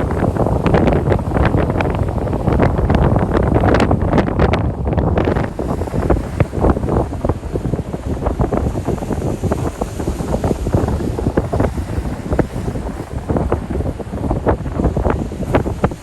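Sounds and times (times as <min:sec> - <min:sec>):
lake waves washing: 0:00.0 - 0:16.0
wind buffeting microphone: 0:00.0 - 0:16.0.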